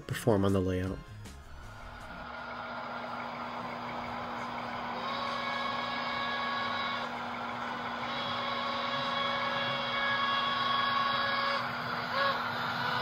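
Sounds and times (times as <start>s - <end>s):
steady hum: 0.0s - 13.0s
multi-tone train whistle: 1.0s - 13.0s
model steam locomotive sounds: 1.5s - 13.0s.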